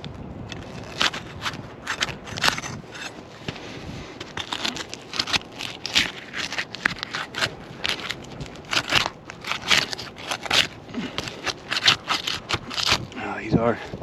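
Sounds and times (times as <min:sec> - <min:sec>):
roof shingle sealant tearing: 0:00.5 - 0:03.2, 0:04.2 - 0:13.2.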